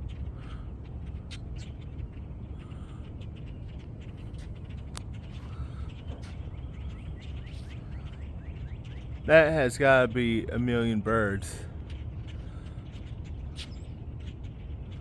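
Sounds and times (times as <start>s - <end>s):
flock of birds chirping: 0.0s - 15.0s
steady low rumble: 0.0s - 15.0s.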